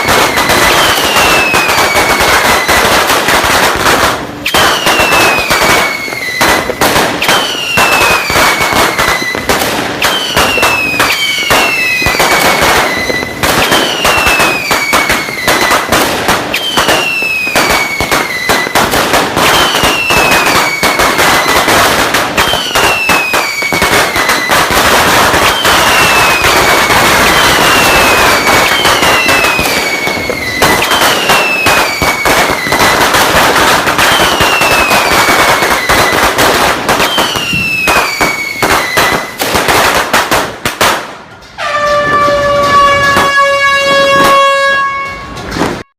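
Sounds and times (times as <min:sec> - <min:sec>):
firecrackers popping: 0:00.0 - 0:45.9.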